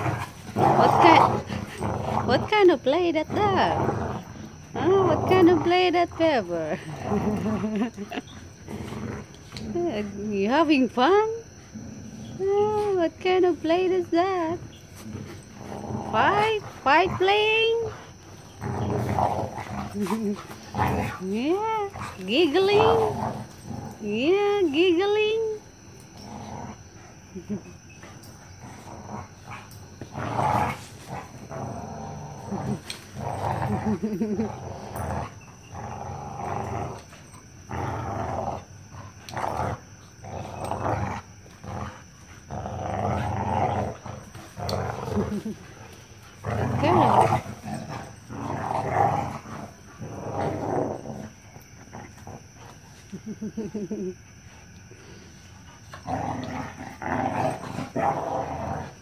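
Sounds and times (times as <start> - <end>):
dogs grunting and growling: 0.0 - 59.0.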